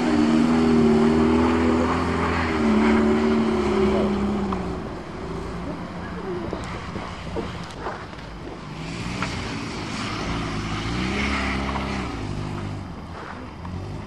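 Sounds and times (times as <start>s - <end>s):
car engine revving past: 0.0s - 7.6s, 8.7s - 14.0s.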